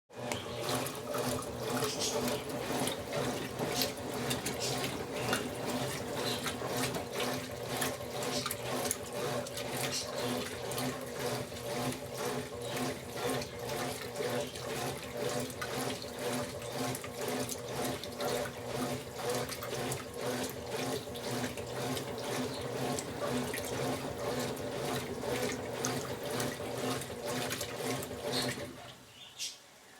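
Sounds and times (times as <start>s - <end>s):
motor hum: 0.1s - 29.1s
washing machine churning water: 0.1s - 29.2s.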